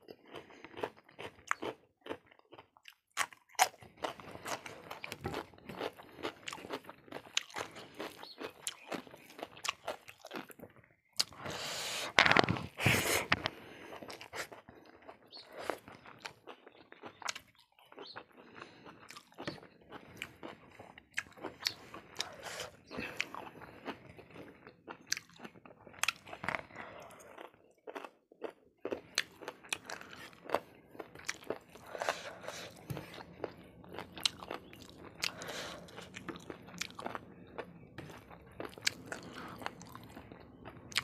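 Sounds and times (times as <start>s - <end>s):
chewing and crunching food: 0.0s - 41.0s.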